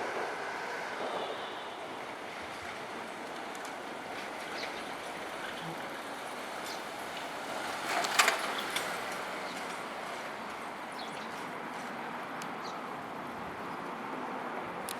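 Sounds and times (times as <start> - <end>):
road traffic noise: 0.0 - 14.9.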